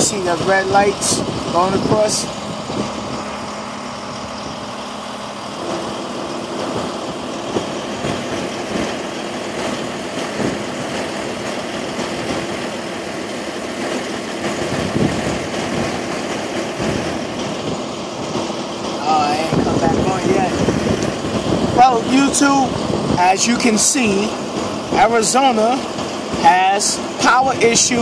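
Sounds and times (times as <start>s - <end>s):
wind rushing: 0.0s - 13.0s, 14.0s - 25.2s
diesel truck engine idling: 0.0s - 28.0s.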